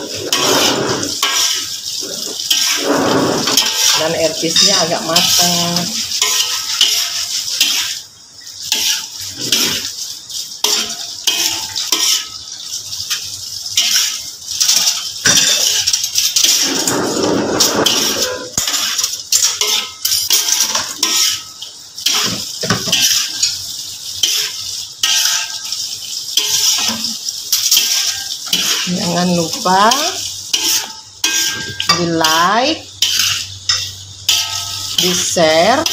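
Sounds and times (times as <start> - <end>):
frying sizzle: 0.0 - 35.9
metal spatula scraping a wok: 0.0 - 35.9.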